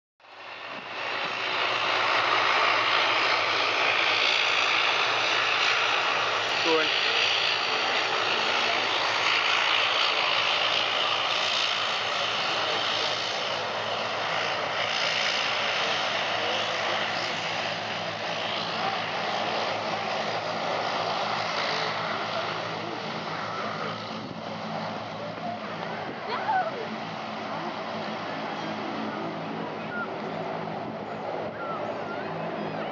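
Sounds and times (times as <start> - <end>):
jet engines roaring: 0.2 - 32.9.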